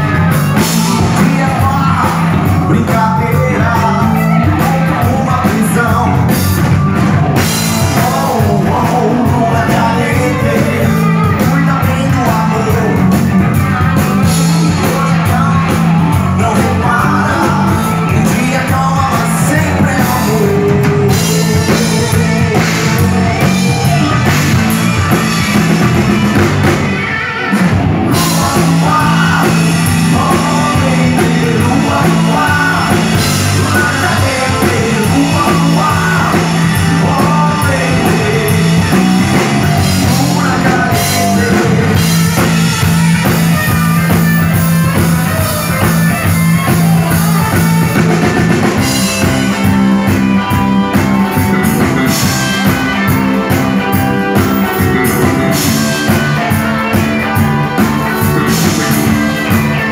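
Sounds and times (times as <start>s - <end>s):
person singing: 0.0s - 6.8s, 7.4s - 59.9s
rock band playing: 0.0s - 59.9s.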